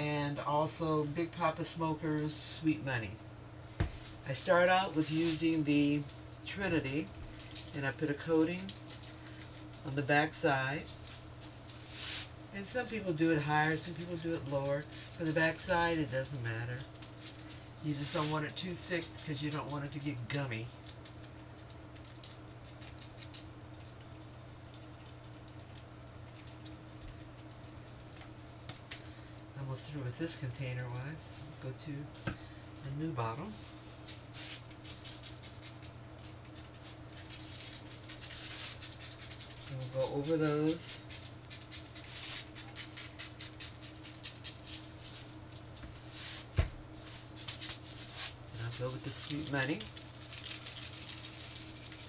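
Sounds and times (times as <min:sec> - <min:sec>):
steady low hum: 0:00.0 - 0:52.0
dry rub patter from shaker: 0:03.9 - 0:29.0, 0:32.8 - 0:52.0.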